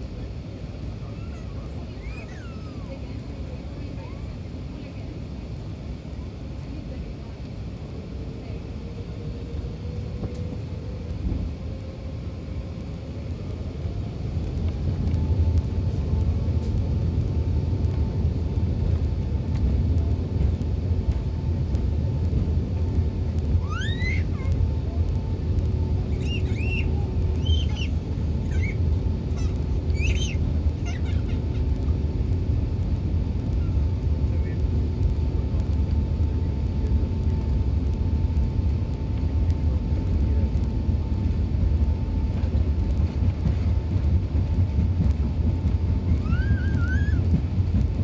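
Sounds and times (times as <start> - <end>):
deep rumble: 0.0 - 48.0
jet engine whine: 0.0 - 48.0.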